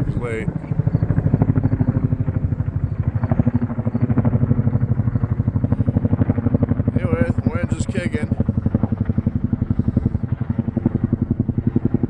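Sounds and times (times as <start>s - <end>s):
helicopter rotor blades beating: 0.0s - 12.0s.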